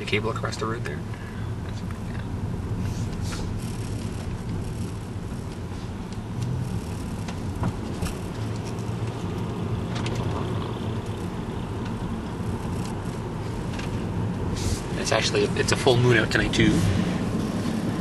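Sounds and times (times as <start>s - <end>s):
car engine and tyre hum: 0.0s - 18.0s.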